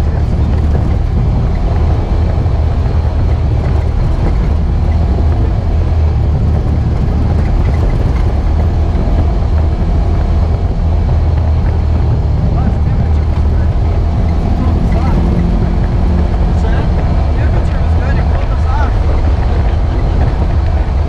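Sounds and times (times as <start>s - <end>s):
engine droning inside cab: 0.0s - 21.0s
trail noise: 0.0s - 21.0s.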